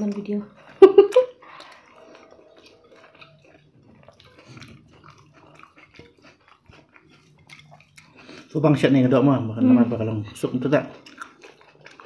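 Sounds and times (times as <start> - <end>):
chewing mouth clicks and smacks: 0.0 - 8.7, 10.4 - 12.0.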